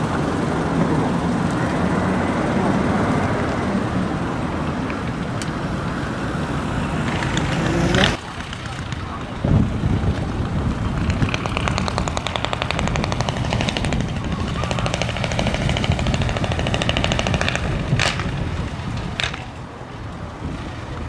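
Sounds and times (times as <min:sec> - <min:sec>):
truck engine rattling exhaust: 0:00.0 - 0:21.0.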